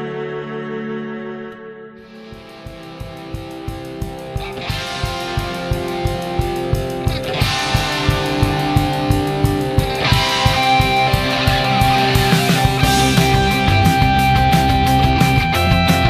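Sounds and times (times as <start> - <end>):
guitar music over a steady beat: 2.0 - 16.0.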